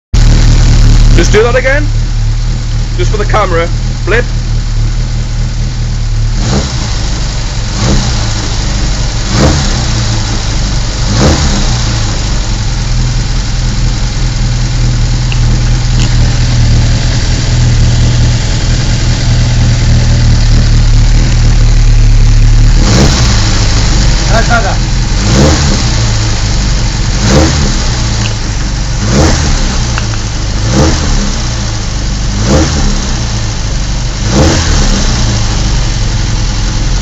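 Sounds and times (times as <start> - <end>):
car engine idling: 0.1 - 37.0.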